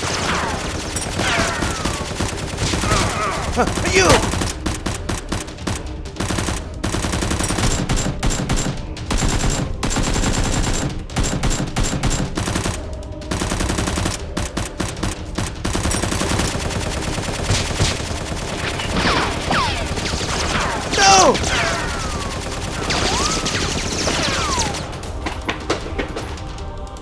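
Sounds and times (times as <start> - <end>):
rapid automatic gunfire: 0.0 - 26.9.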